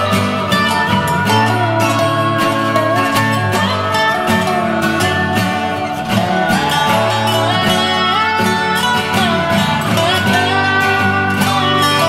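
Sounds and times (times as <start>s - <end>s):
guitar background music: 0.0s - 12.0s
sliding melody line: 0.0s - 12.0s.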